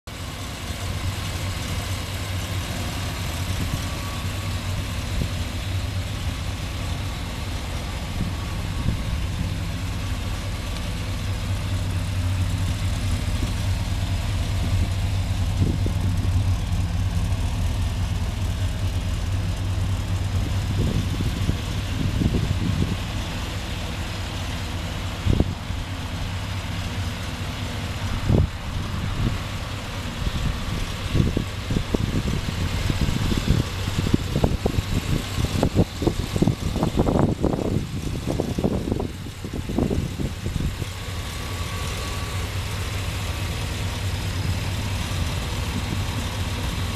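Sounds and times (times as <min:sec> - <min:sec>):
pickup engine idling: 0:00.0 - 0:46.9.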